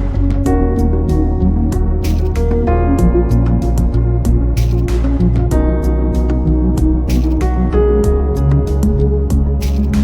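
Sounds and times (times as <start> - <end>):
steady bass line: 0.0 - 10.0.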